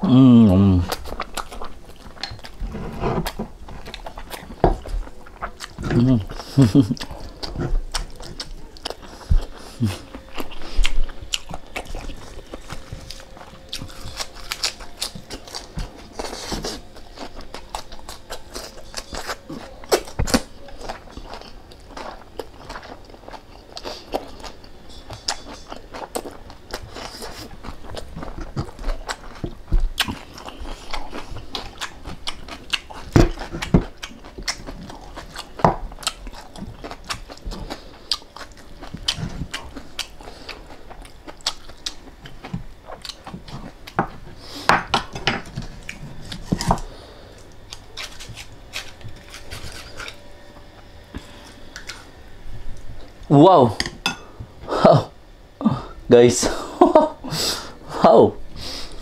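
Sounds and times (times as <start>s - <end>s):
person chewing and biting: 0.3s - 53.2s.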